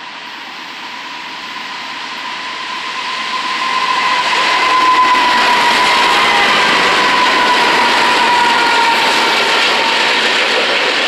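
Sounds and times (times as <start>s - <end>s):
diesel locomotive engines: 0.0s - 11.0s
steady whine: 0.0s - 11.0s.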